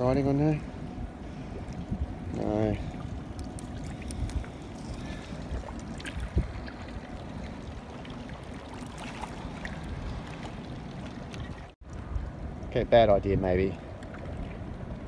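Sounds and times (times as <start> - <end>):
river water lapping: 0.0 - 12.8, 13.7 - 15.0.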